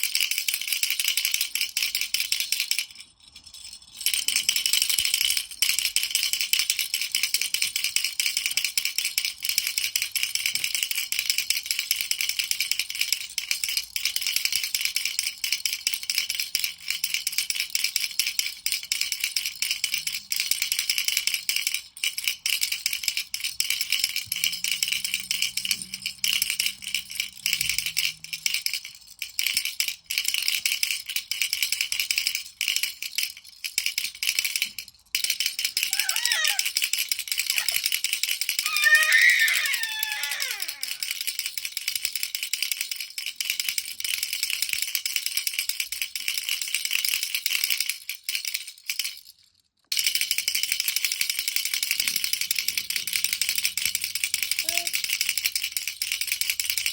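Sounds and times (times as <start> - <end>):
baby rattle shaken: 0.0 - 56.9.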